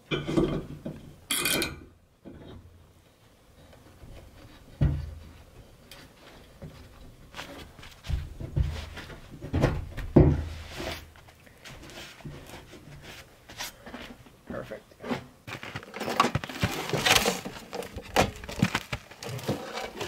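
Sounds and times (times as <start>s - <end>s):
rubbing and handling noise: 2.4s - 20.0s.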